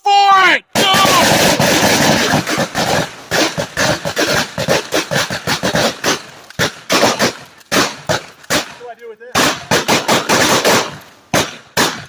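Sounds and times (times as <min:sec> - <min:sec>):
shotgun bangs: 0:00.8 - 0:12.0.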